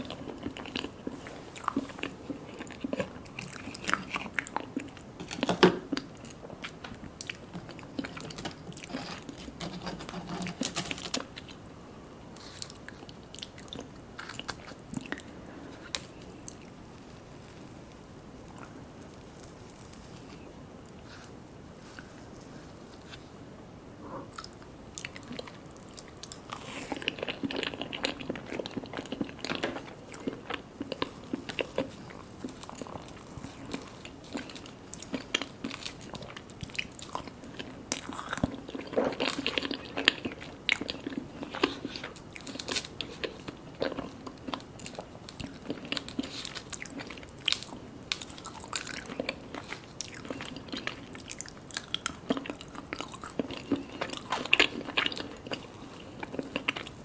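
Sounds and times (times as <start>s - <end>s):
biting and chewing cake: 0.0s - 11.6s, 12.3s - 21.4s, 24.2s - 57.0s.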